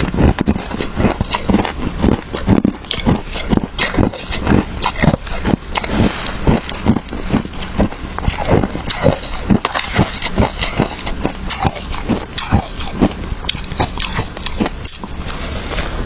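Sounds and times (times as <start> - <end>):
chewing crunchy shaved ice: 0.0 - 16.0.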